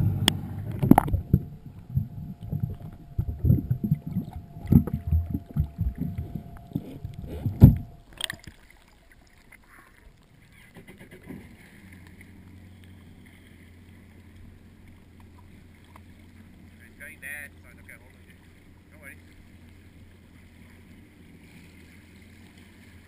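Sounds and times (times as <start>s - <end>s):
faint water movement: 0.0s - 23.0s
low steady hum: 0.0s - 23.0s
underwater rumbling and gurgling: 0.0s - 23.0s.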